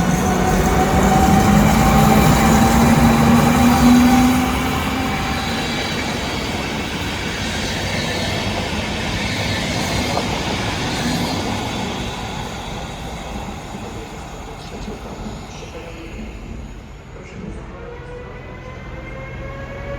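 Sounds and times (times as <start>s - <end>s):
electric locomotive whine: 0.0s - 19.9s
train coaches rolling: 0.0s - 19.9s.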